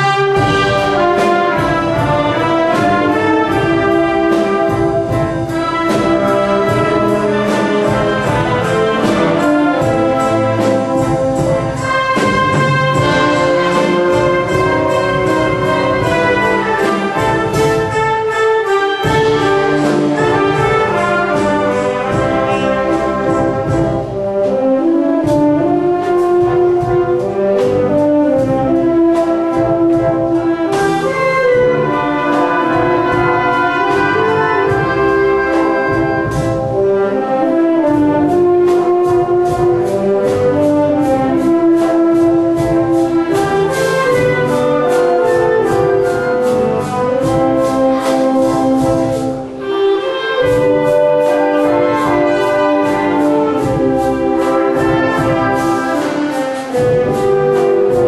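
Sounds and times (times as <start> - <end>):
steady percussion beat: 0.0 - 58.0
wind band playing: 0.0 - 58.0.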